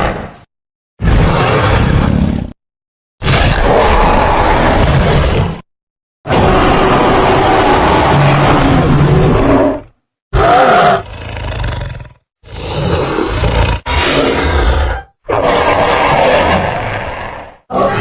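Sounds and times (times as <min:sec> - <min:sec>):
creature roars and growls: 0:01.0 - 0:02.6, 0:03.2 - 0:05.7, 0:06.3 - 0:18.0.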